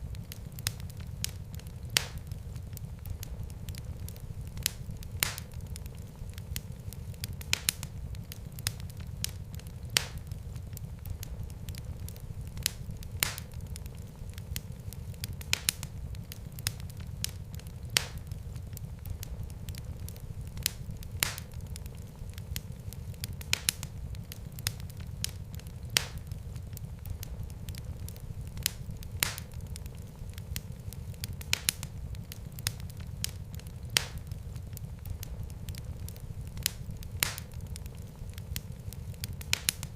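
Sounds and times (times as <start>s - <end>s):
fire crackling with pops: 0.0s - 39.9s.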